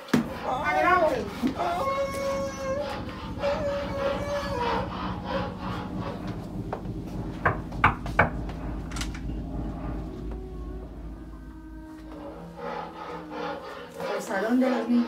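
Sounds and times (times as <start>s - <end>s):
wavering tone sliding down: 0.0s - 14.4s.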